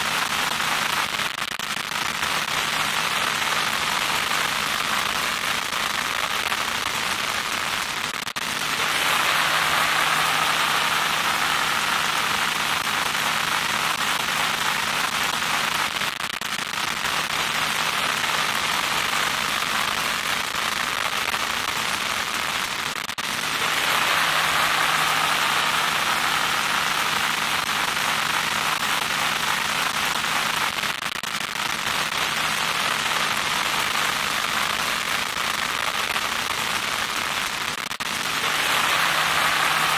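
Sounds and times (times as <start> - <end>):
crackling static hiss: 0.0 - 39.9.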